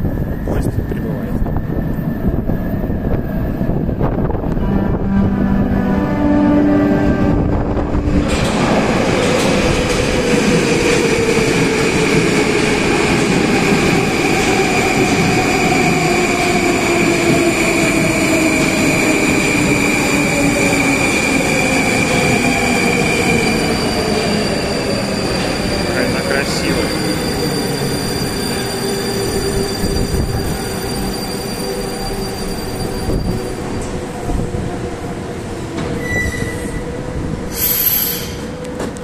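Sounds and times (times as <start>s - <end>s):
train rumble: 0.0s - 32.2s.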